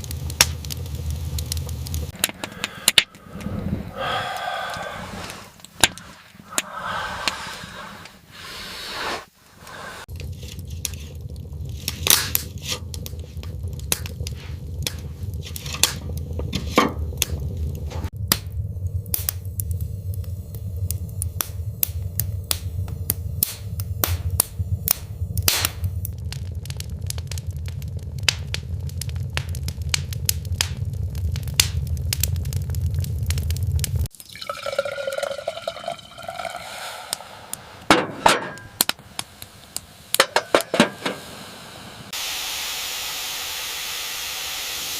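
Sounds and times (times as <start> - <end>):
wood fire crackling: 0.0 - 42.2.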